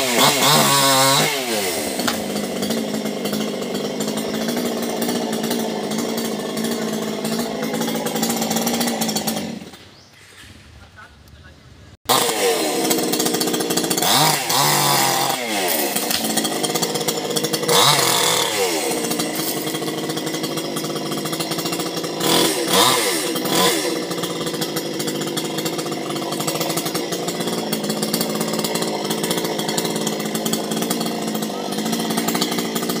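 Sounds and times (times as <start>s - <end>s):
chainsaw revving: 0.0s - 9.8s, 12.1s - 33.0s.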